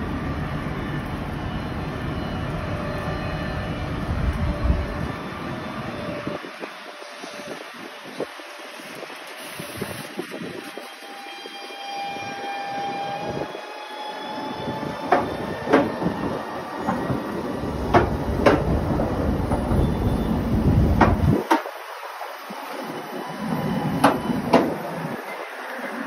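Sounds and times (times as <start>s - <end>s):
trolleybus rumble: 0.0s - 26.0s.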